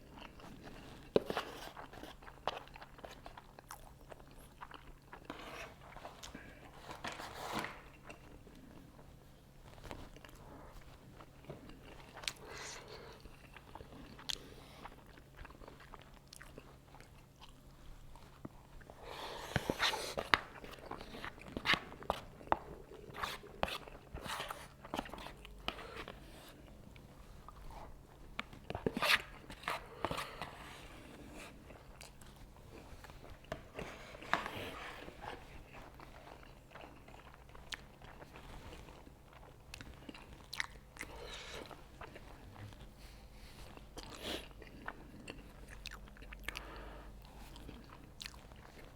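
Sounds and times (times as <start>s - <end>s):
person chewing noodles: 0.0s - 7.0s, 10.0s - 48.9s.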